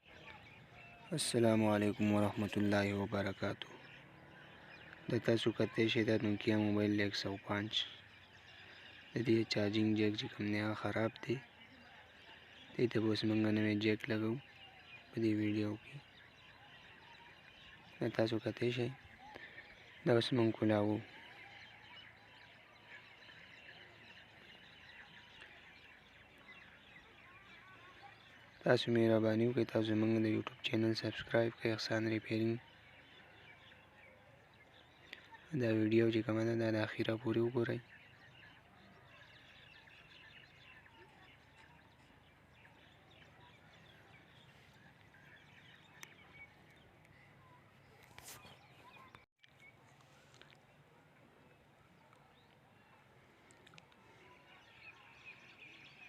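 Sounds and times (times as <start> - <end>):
faint bird chirping: 0.0 - 56.0.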